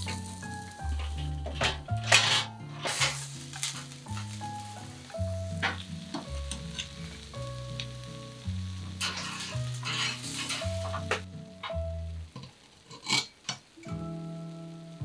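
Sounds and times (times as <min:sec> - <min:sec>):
soft background music: 0:00.0 - 0:12.4, 0:13.8 - 0:15.0
fish sizzling: 0:00.0 - 0:15.0.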